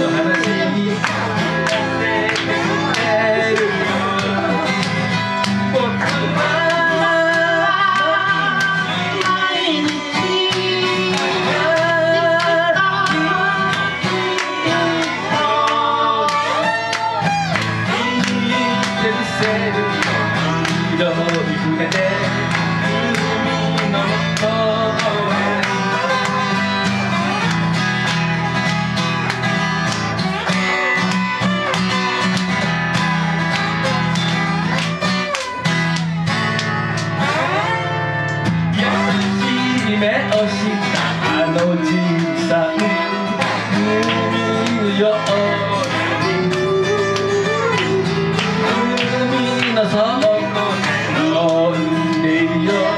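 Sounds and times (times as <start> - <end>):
slide guitar melody: 0.0 - 52.9
strummed acoustic guitar: 0.0 - 52.9.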